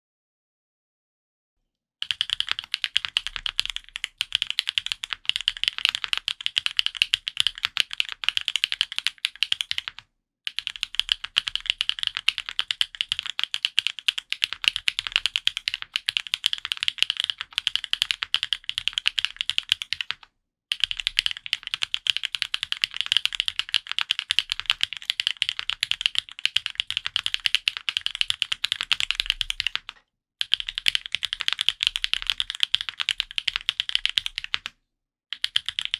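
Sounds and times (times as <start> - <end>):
mechanical keyboard typing: 2.0 - 35.9.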